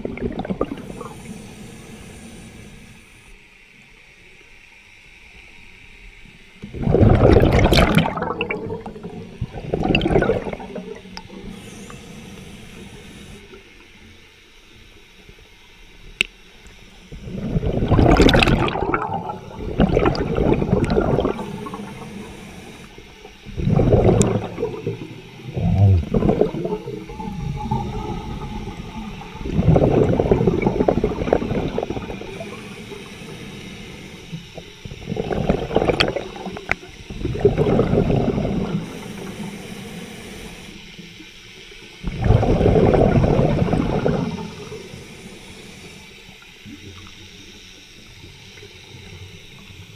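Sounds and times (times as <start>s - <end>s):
underwater bubbles gurgling: 0.0s - 3.4s, 6.4s - 49.9s.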